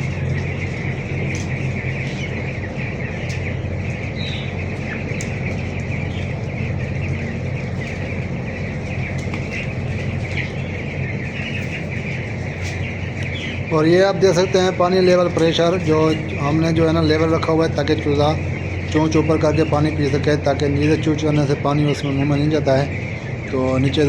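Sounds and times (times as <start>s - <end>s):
chicks peeping: 0.0s - 24.0s
ventilation fan hum: 0.0s - 24.0s.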